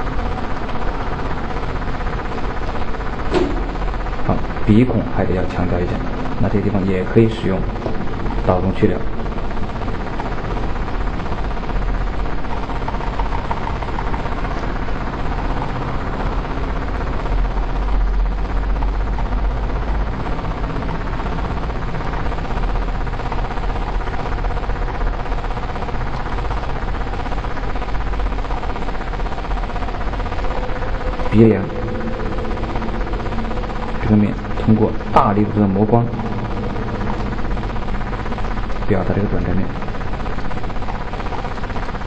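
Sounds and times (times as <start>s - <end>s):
milling machine hum: 0.0s - 42.0s
steady machine tones: 0.0s - 42.0s.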